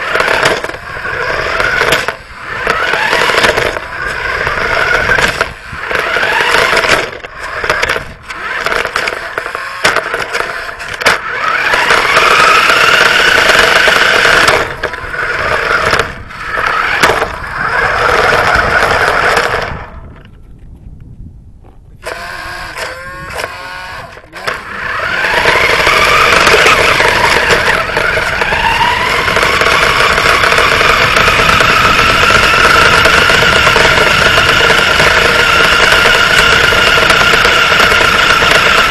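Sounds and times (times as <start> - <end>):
radio-controlled car motor whining: 0.0 - 20.2, 22.0 - 38.9
tyre and road noise: 0.0 - 38.9.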